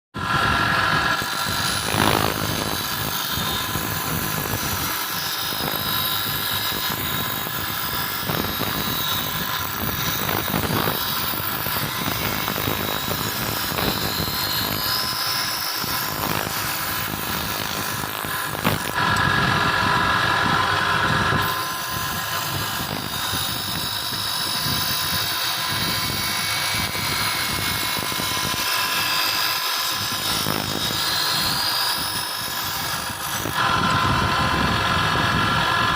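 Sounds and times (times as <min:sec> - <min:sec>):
power tool grinding steel: 0:00.2 - 0:35.9.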